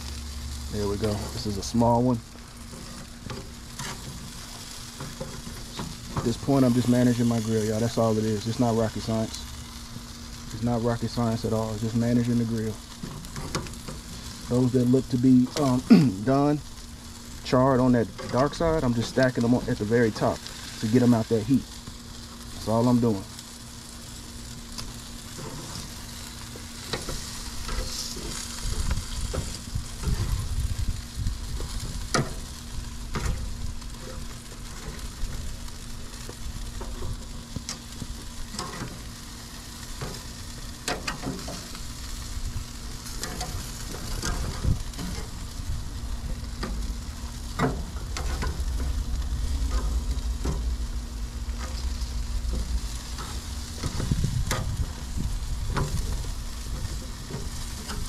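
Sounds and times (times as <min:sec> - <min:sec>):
meat sizzling over charcoal: 0:00.0 - 0:58.0.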